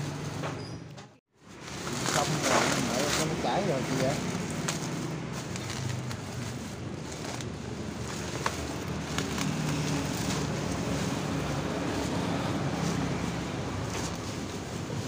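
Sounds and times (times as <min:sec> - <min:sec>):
bubble wrap crinkling: 0:01.4 - 0:15.0.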